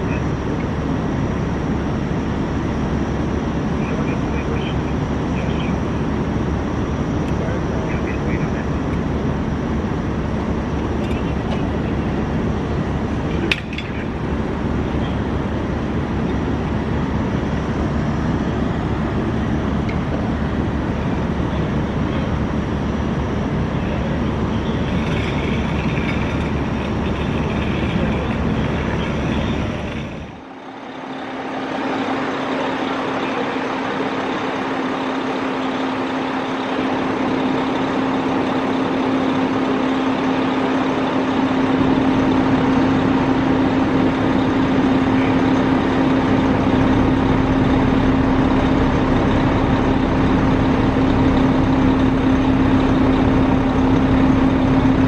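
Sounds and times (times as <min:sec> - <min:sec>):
diesel truck engine running: 0:00.0 - 0:55.0
steady low hum: 0:00.0 - 0:55.0.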